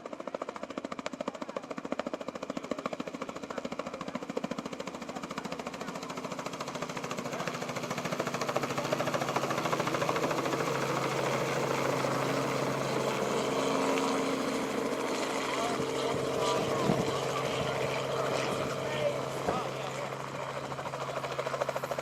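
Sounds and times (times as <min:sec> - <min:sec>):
helicopter engine hum: 0:00.0 - 0:22.0
helicopter rotor beating: 0:00.0 - 0:22.0.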